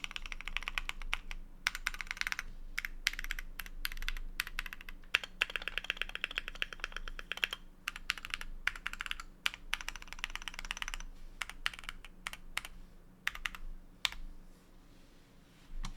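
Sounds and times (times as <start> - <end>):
mechanical keyboard typing: 0.0 - 12.7, 13.3 - 14.2.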